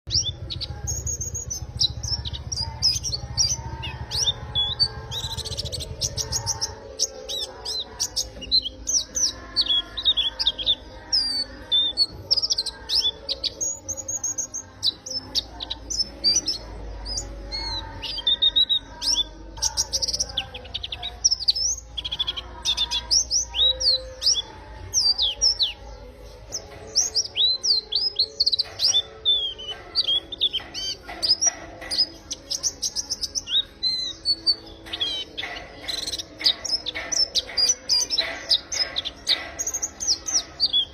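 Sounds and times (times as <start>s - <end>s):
small bird singing high chirps: 0.0s - 40.9s.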